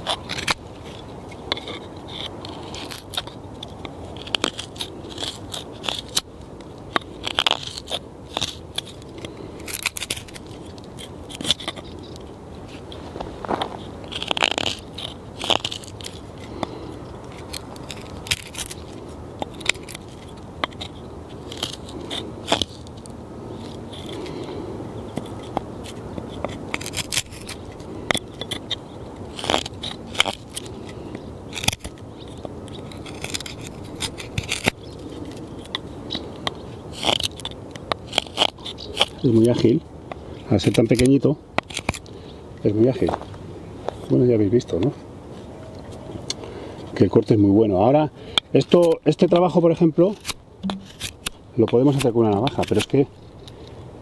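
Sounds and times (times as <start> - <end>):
knife shaving wooden stick: 0.0 - 39.7, 40.4 - 42.1, 48.6 - 53.6.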